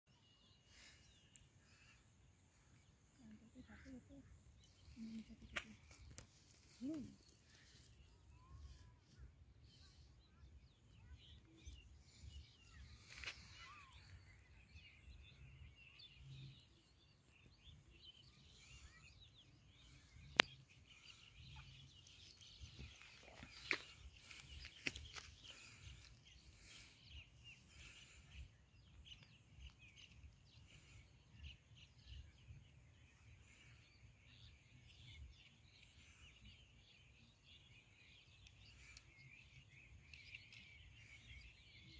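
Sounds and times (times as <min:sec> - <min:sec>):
distant bird calls: 0:00.3 - 0:41.9.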